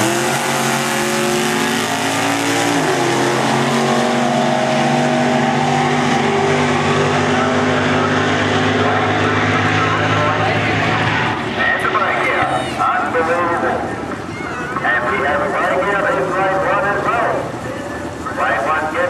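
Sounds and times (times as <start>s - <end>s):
drag cars accelerating at full throttle: 0.0s - 19.0s.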